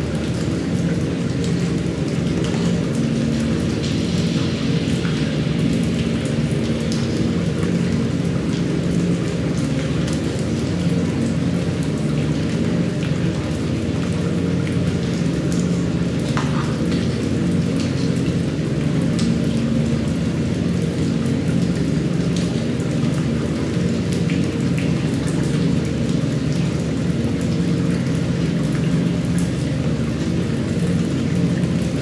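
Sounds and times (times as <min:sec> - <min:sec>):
drips and ticks: 0:00.0 - 0:32.0
low steady hum: 0:00.0 - 0:32.0
steady rain: 0:00.0 - 0:32.0.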